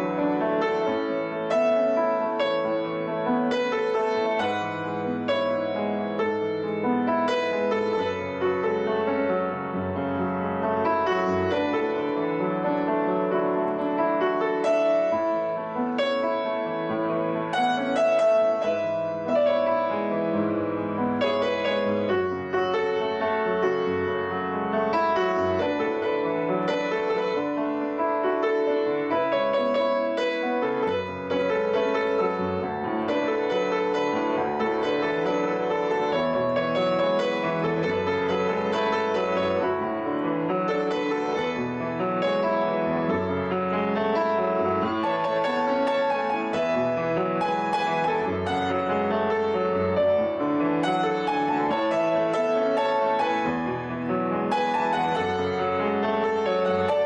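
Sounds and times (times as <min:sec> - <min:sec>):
piano background music: 0:00.0 - 0:57.0.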